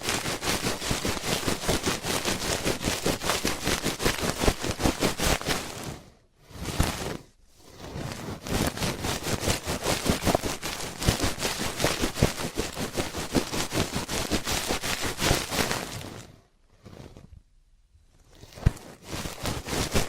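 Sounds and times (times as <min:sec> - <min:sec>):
scratching on microphone: 0:00.0 - 0:17.5, 0:18.1 - 0:20.0.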